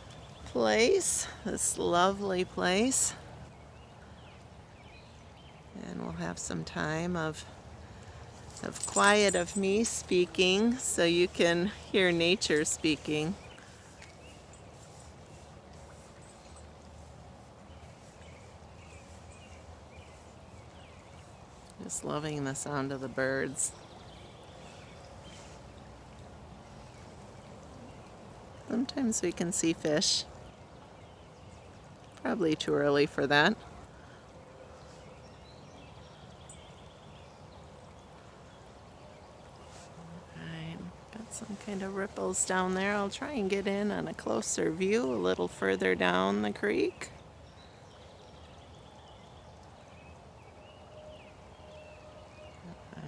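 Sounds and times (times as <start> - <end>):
faint songbirds chirping: 0.0 - 53.0
low outdoor background: 0.0 - 53.0.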